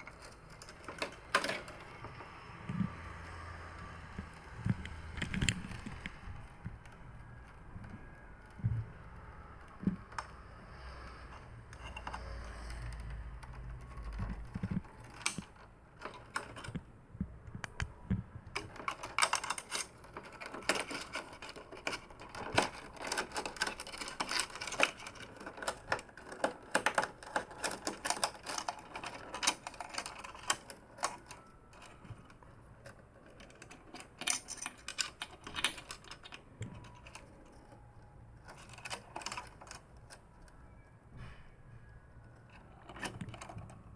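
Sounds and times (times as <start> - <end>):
plastic parts clicking: 0.0 - 3.0, 4.2 - 40.9, 42.1 - 43.9.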